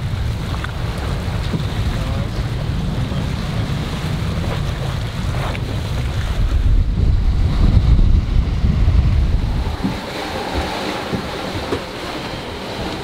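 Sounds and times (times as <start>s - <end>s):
ocean waves rushing: 0.0s - 13.0s
water along a hull: 0.0s - 13.0s
wind buffeting microphone: 0.0s - 13.0s.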